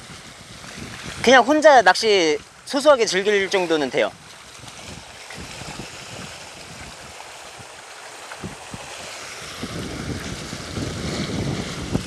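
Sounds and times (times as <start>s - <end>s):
sea water washing: 0.0s - 12.0s
wind rumbling on microphone: 0.0s - 12.0s.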